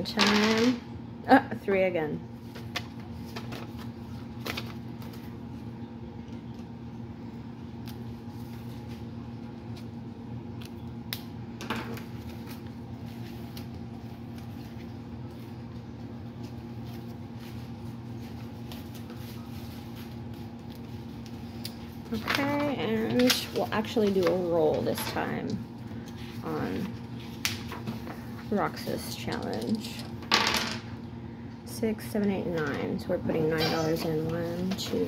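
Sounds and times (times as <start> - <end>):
low room hum: 0.0 - 35.0.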